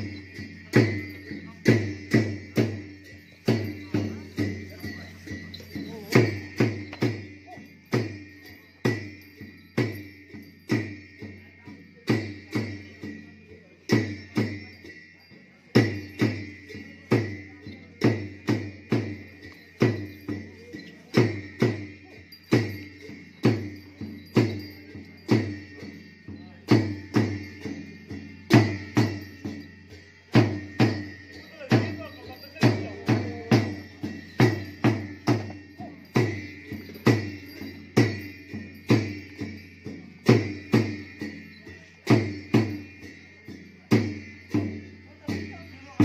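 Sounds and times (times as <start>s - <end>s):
drum thuds: 0.0s - 11.4s, 15.8s - 45.5s
cymbals clashing: 0.0s - 46.0s.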